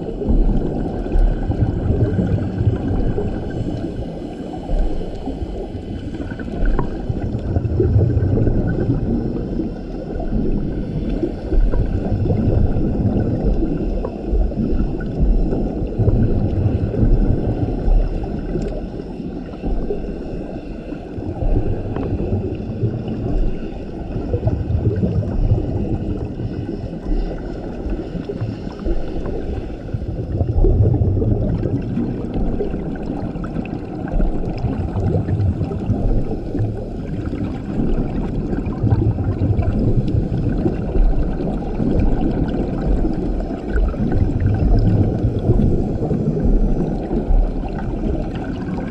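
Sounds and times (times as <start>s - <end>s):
gurgling exhaled bubbles: 0.0s - 48.9s
steady underwater hiss: 0.0s - 48.9s.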